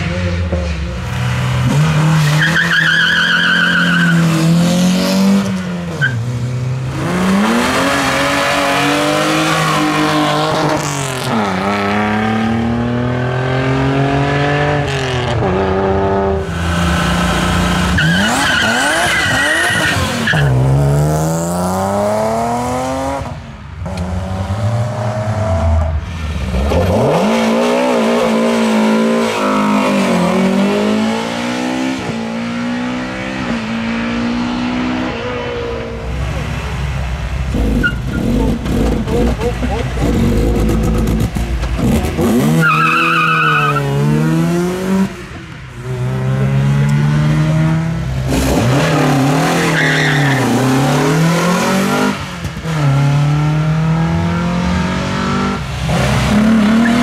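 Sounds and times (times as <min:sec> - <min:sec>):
race car engines accelerating: 0:00.0 - 0:57.0.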